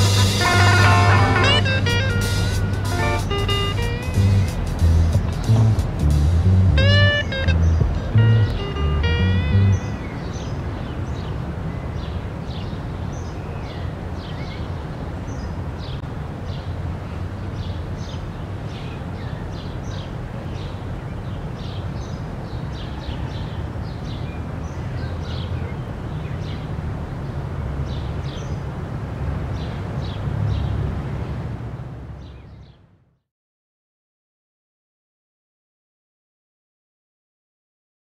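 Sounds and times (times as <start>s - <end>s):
birds chirping: 0.0s - 28.8s, 29.5s - 31.4s, 32.2s - 32.8s
traffic rumble: 0.0s - 33.1s.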